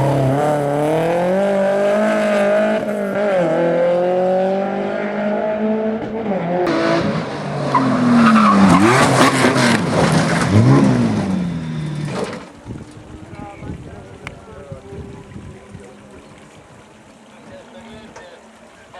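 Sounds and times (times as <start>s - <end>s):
race car engine revving: 0.0s - 16.7s
tyres skidding: 0.0s - 18.9s.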